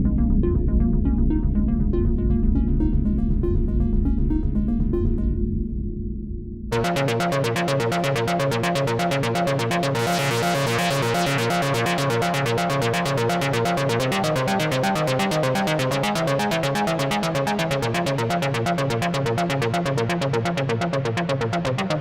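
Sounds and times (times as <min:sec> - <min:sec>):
synthesizer bass line: 0:00.0 - 0:05.9, 0:06.7 - 0:22.0.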